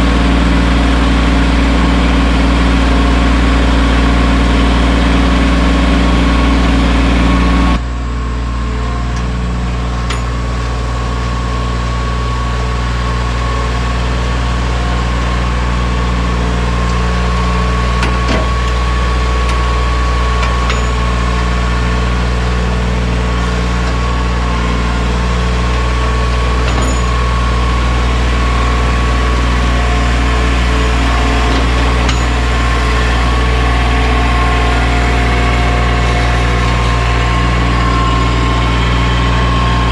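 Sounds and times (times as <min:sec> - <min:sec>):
high steady whine: 0:00.0 - 0:39.9
tractor diesel engine running: 0:00.0 - 0:39.9.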